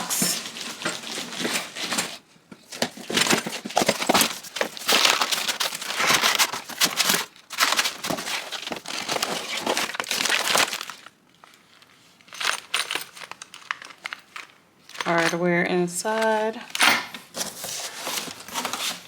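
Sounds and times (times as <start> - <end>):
cardboard and packing rustling: 0.0 - 15.0, 17.2 - 19.0.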